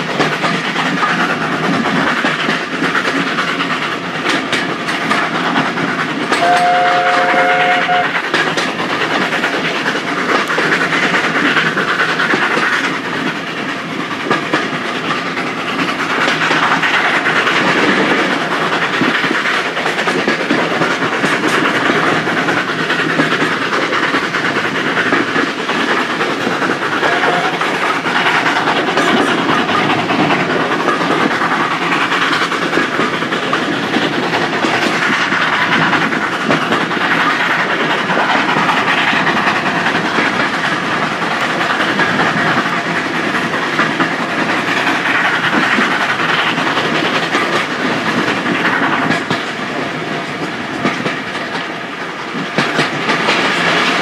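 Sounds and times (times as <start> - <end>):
steam locomotive exhaust: 0.0 - 54.0
train wheels running over rails: 0.0 - 54.0.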